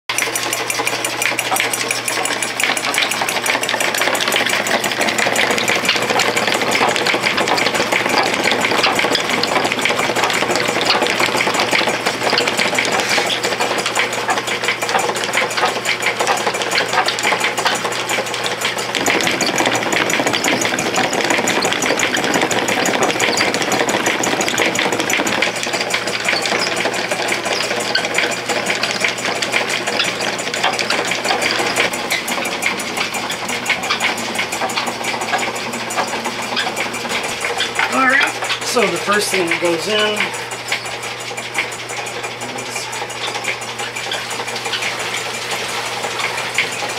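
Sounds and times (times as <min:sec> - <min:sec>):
electric motor hum: 0:00.1 - 0:46.9
machine belts and gears clattering: 0:00.1 - 0:46.9.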